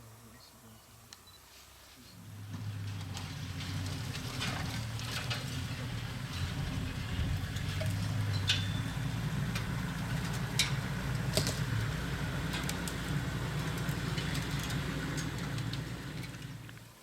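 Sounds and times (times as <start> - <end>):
vehicle engine low rumble: 2.2 - 17.0.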